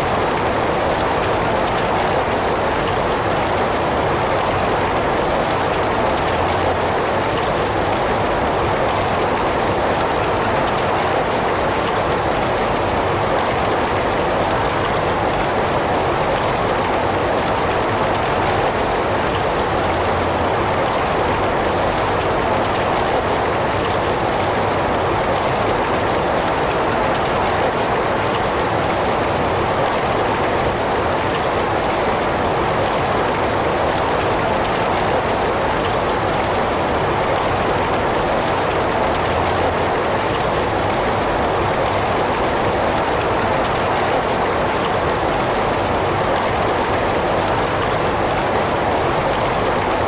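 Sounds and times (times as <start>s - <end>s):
heavy rain falling: 0.0s - 50.0s.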